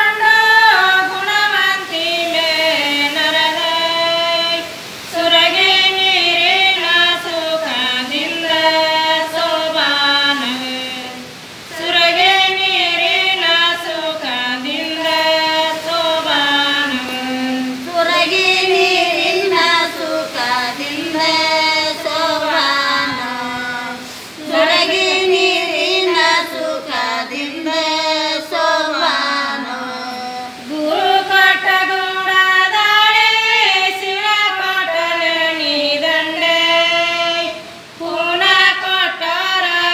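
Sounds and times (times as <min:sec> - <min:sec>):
women singing in unison: 0:00.0 - 0:39.9.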